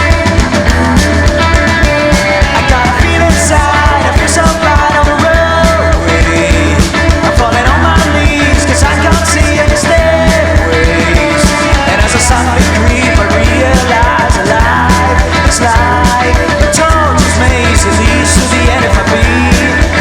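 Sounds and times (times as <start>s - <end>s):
drums beating: 0.0s - 20.0s
heavy bass: 0.0s - 20.0s
rock band playing live: 0.0s - 20.0s.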